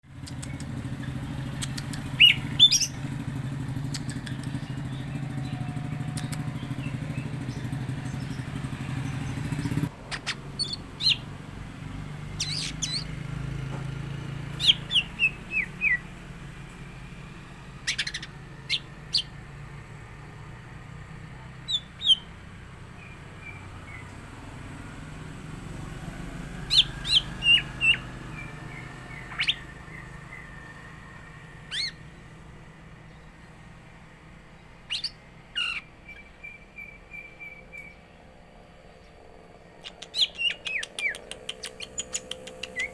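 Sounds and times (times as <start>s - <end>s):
steady low hum: 0.1s - 42.9s
bird chirping: 0.2s - 33.6s, 34.5s - 42.9s.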